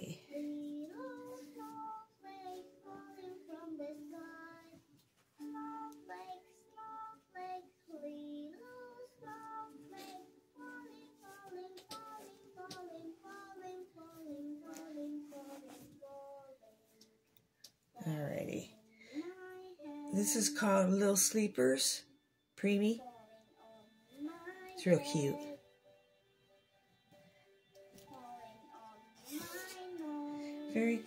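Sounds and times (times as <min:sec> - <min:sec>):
childlike voice singing melody: 0:00.0 - 0:04.8, 0:05.4 - 0:17.0, 0:18.0 - 0:20.8, 0:23.0 - 0:25.6, 0:28.0 - 0:31.0.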